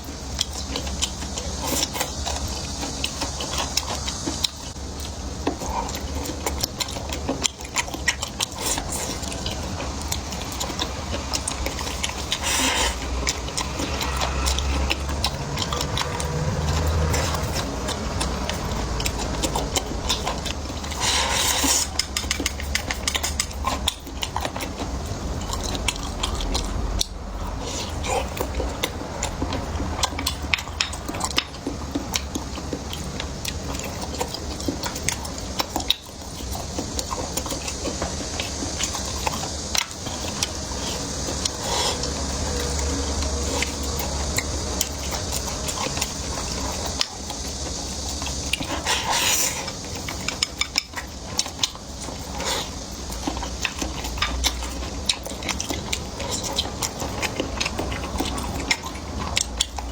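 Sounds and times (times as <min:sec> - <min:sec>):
person chewing: 0:00.0 - 0:59.9
utensils clicking against dishes: 0:00.4 - 0:59.9.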